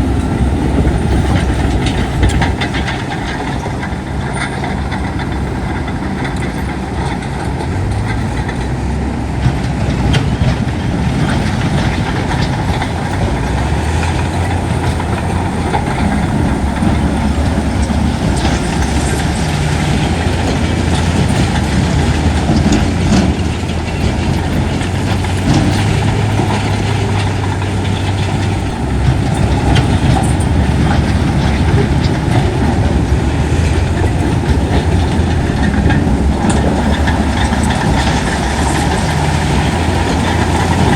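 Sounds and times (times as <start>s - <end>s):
heavy machinery diesel engines: 0.0s - 40.9s.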